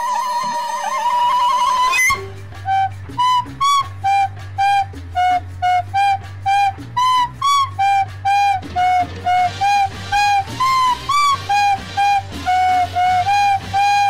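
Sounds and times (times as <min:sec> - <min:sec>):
flute-like tune: 0:00.0 - 0:14.0
low steady hum: 0:02.0 - 0:14.0.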